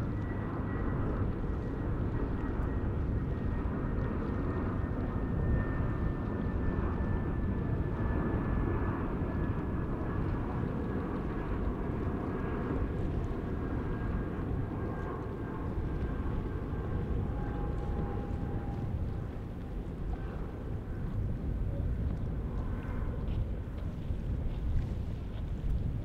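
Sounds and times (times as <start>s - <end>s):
jet engines rumbling with whine: 0.0s - 26.0s.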